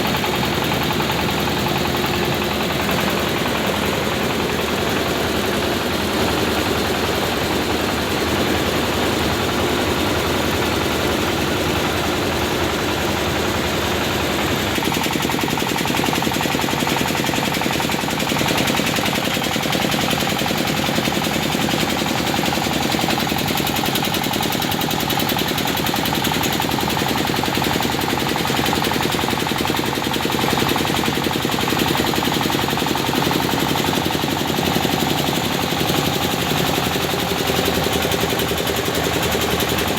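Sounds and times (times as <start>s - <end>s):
rice huller rattling: 0.0s - 39.9s.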